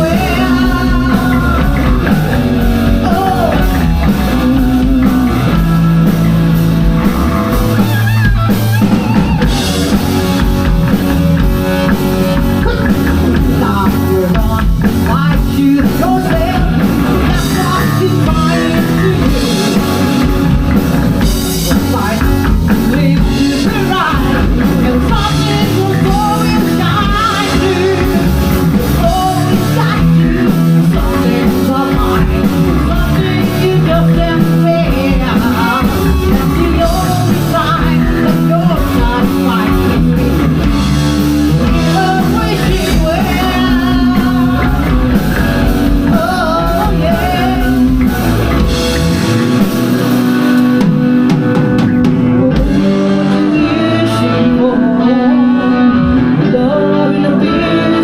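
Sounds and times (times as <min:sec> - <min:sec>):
person singing: 0:00.0 - 0:06.2, 0:07.7 - 0:40.3, 0:41.5 - 0:48.7, 0:52.1 - 0:58.0
bass guitar: 0:00.0 - 0:58.0
drum kit: 0:00.0 - 0:58.0
electric guitar: 0:00.0 - 0:58.0.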